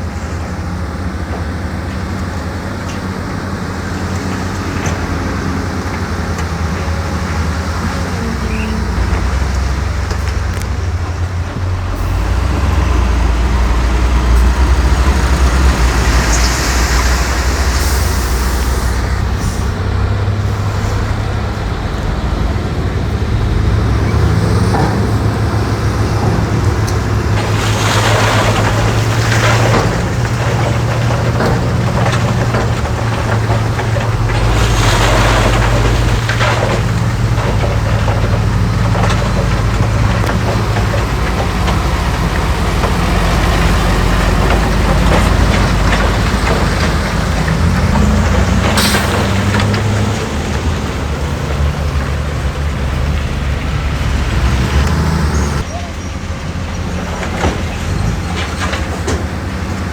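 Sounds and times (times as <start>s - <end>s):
diesel machinery engine drone: 0.0s - 59.9s
scraping rattling noise: 4.1s - 55.7s.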